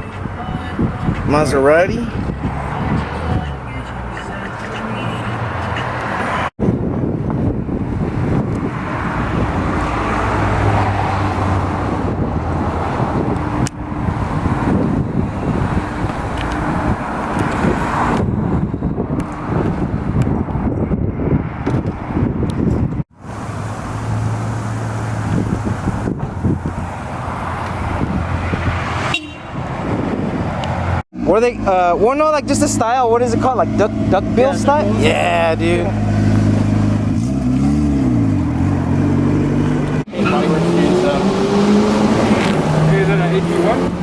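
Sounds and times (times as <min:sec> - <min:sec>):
cars rolling by: 0:00.0 - 0:44.0.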